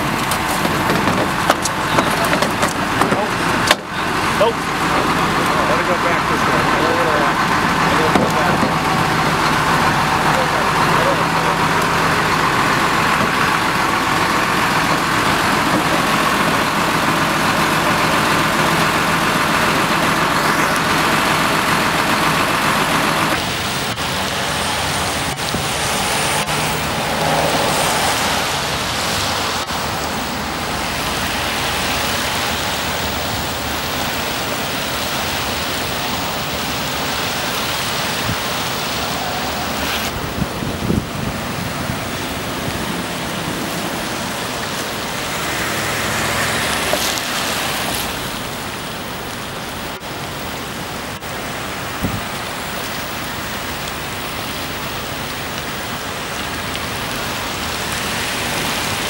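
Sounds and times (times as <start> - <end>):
truck engine idling: 0.0 - 58.9
rain: 0.0 - 59.0
vehicles driving on wet road: 0.0 - 59.0.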